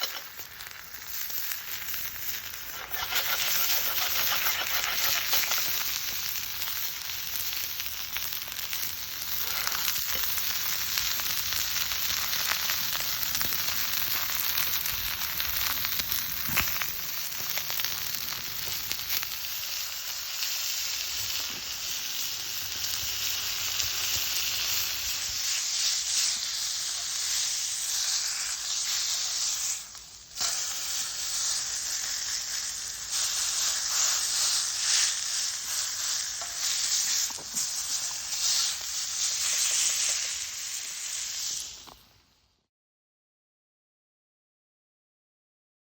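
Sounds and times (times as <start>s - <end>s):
chicken sizzling in a frying pan: 0.0s - 42.6s.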